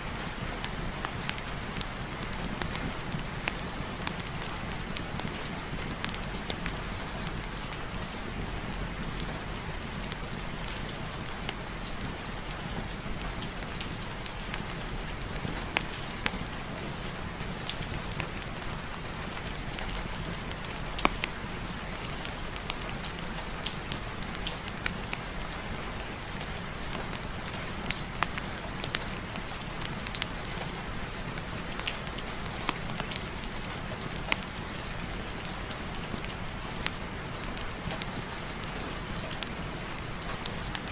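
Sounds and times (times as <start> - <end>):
steady rain: 0.0 - 40.9
wood fire crackling: 0.6 - 8.0, 8.6 - 40.9.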